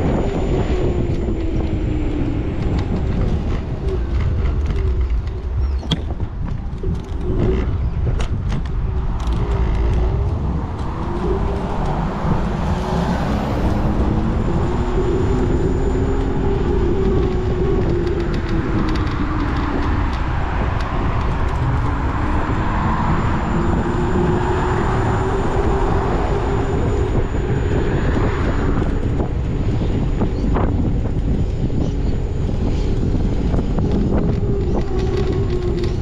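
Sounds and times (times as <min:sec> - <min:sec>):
vehicle motor humming: 0:00.0 - 0:36.0
wind rumble on microphone: 0:00.0 - 0:36.0.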